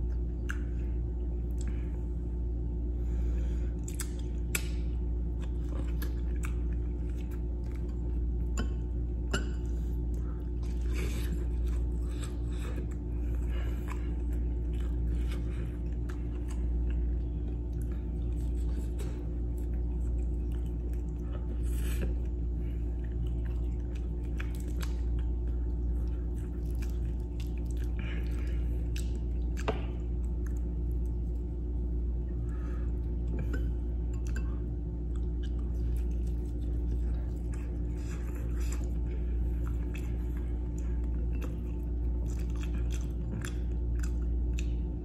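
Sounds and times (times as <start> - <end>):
low electrical hum: 0.0 - 45.0
chewing and biting food: 3.7 - 45.0.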